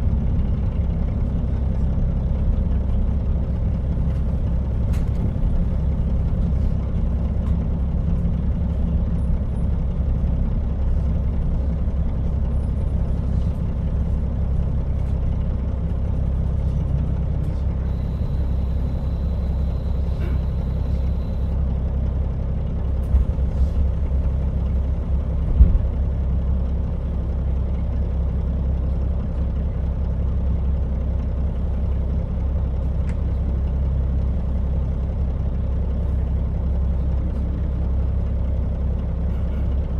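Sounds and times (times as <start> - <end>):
diesel railcar rumbling: 0.0 - 39.9.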